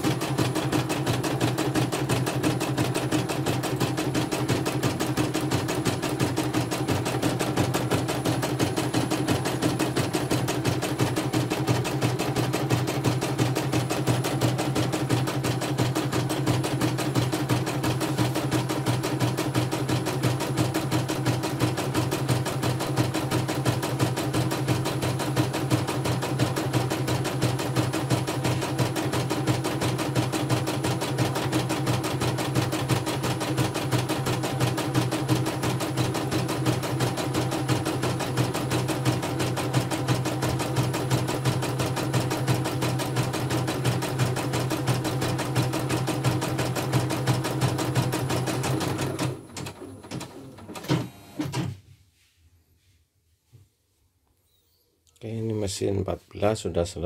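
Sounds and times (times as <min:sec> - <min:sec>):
embroidery machine stitching: 0:00.0 - 0:51.8.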